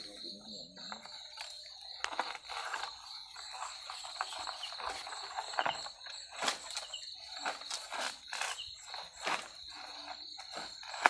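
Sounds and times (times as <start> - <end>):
night insects chirping: 0.0 - 11.0.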